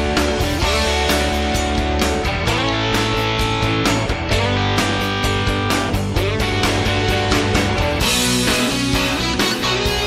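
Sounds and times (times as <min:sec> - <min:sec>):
guitar-led music with drum beat: 0:00.0 - 0:10.0.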